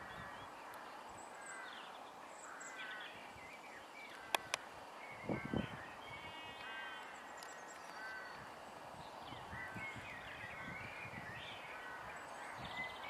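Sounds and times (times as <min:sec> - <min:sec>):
birds calling and singing: 0:00.0 - 0:13.0
steady background hiss: 0:00.0 - 0:13.0.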